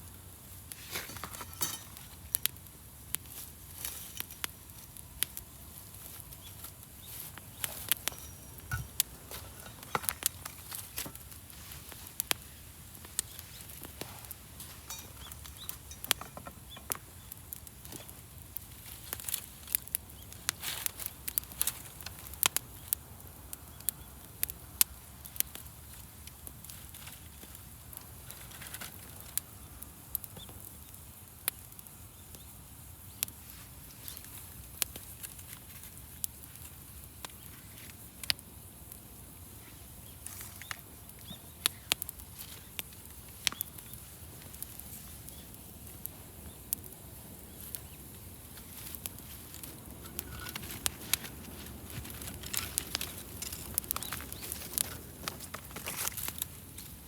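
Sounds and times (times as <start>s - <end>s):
soft steady hiss: 0.0s - 57.0s
wood fire crackling and popping: 0.0s - 57.0s.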